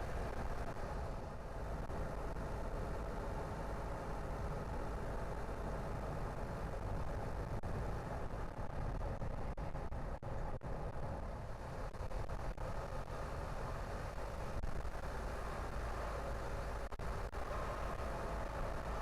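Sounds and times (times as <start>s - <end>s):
car tyre and engine rumble: 0.0s - 19.0s.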